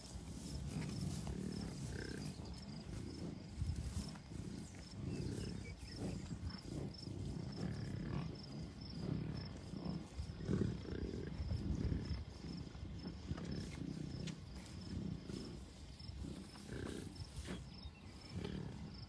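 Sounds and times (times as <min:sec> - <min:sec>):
bison grunting: 0:00.0 - 0:19.0.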